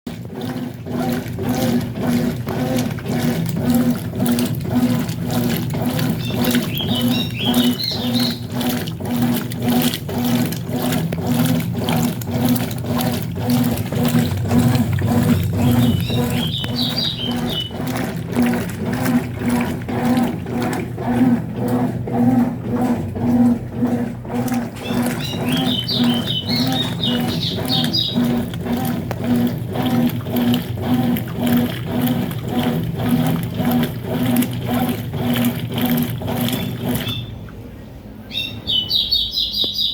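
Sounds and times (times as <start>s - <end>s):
washing machine motor humming: 0.0s - 39.8s
water sloshing: 0.1s - 39.8s.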